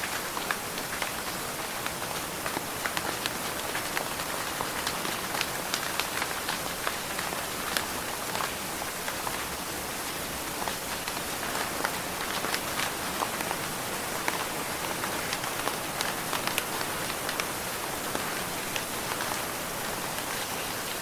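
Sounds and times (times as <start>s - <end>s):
steady rain hiss: 0.0s - 21.0s.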